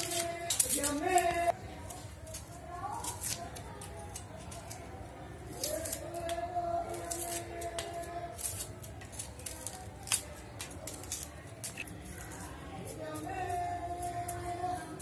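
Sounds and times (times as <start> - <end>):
knife slicing onion: 0.0 - 15.0.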